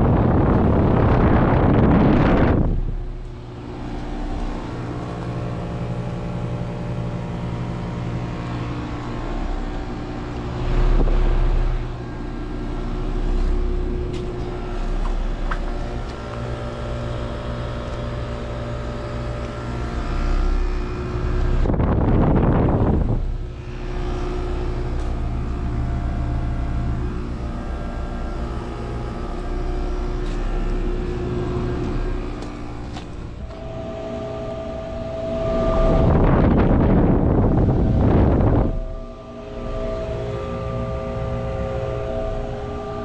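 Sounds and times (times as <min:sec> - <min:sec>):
heat pump humming: 0:00.0 - 0:43.0
wind noise on microphone: 0:00.0 - 0:43.0.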